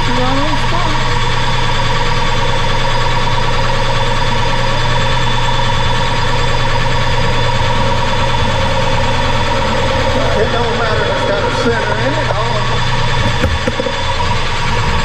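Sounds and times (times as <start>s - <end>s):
drill boring into metal shaft: 0.0s - 15.0s
metal lathe running: 0.0s - 15.0s.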